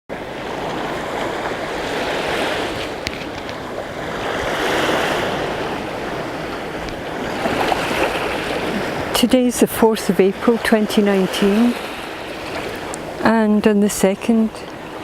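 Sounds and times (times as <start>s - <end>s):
sea waves washing: 0.1s - 15.0s.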